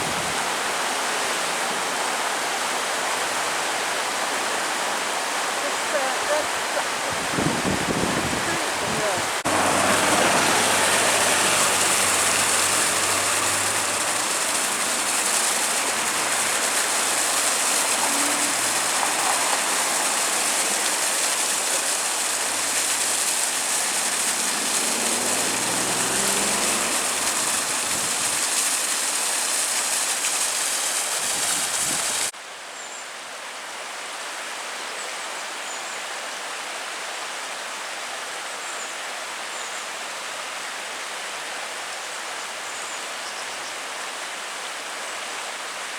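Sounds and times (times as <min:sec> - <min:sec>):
flooded river water rushing: 0:00.0 - 0:45.9.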